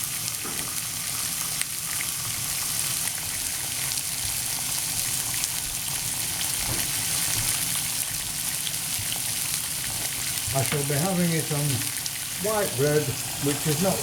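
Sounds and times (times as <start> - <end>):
bacon sizzling in a pan: 0.0 - 14.0.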